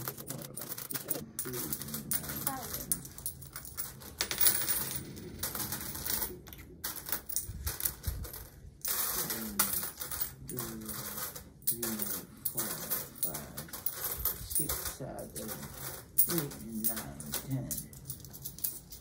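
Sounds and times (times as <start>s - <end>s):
coins clinking on a tabletop: 0.0s - 19.0s.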